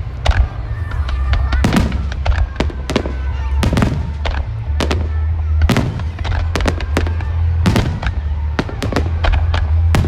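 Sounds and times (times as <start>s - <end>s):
fireworks bursting and cracking: 0.0s - 10.0s.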